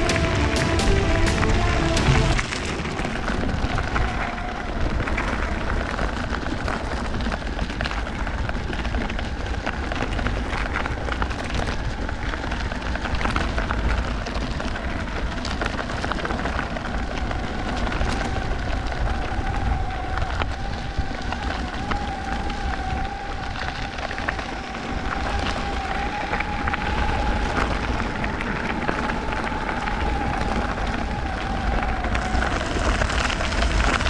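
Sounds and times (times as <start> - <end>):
skateboard rolling on gravel: 0.0 - 34.0.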